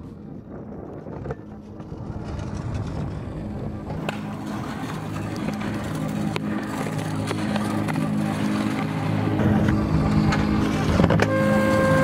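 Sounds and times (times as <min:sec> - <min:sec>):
low steady hum: 0:00.0 - 0:12.0
scooter wheels rolling on asphalt: 0:00.0 - 0:12.0.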